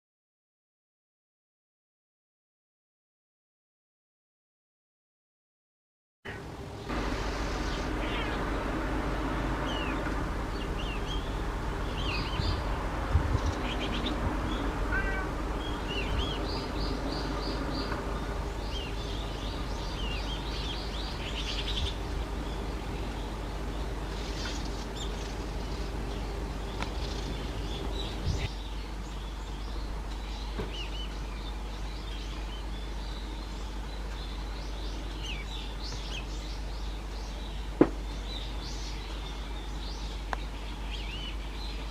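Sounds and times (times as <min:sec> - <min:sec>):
steady low background hum: 0:06.3 - 0:41.9
wild birds chirping and trilling: 0:06.3 - 0:41.9.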